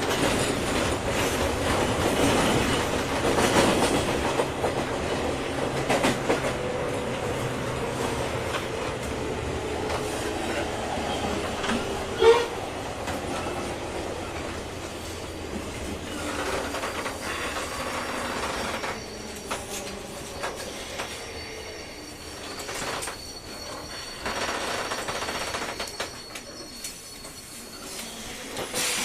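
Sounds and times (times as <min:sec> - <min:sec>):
train rail and wheel noise: 0:00.0 - 0:29.0.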